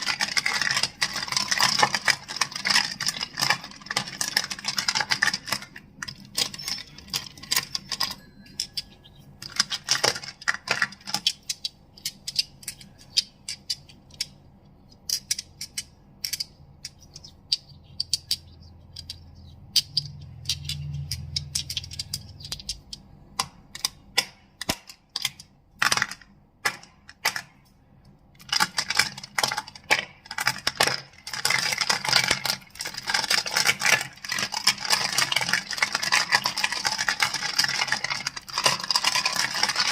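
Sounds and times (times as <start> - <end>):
crystals clacking together: 0.0 - 27.5, 28.4 - 39.9.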